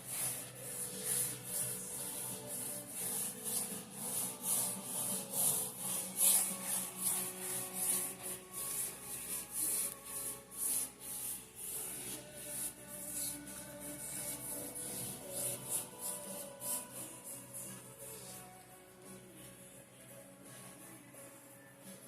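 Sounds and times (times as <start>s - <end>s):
brush swishing on canvas: 0.0s - 19.2s
soft background music: 0.0s - 22.0s.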